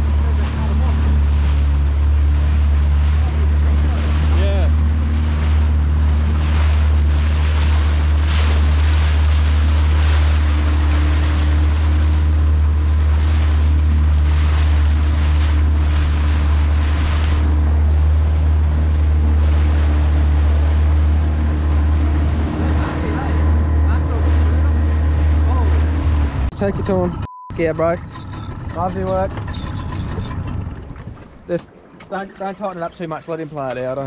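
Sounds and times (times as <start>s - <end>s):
outboard motor running: 0.0s - 34.0s
water splashing past hull: 0.0s - 34.0s.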